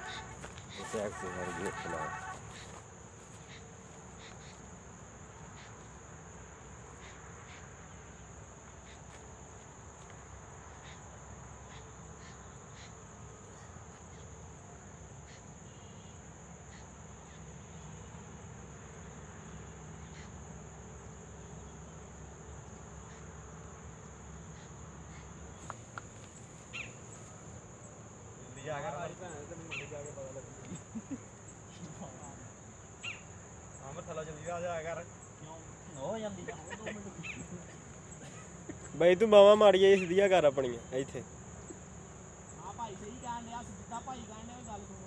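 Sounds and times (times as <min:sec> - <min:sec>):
insect chorus chirring: 0:00.0 - 0:45.0.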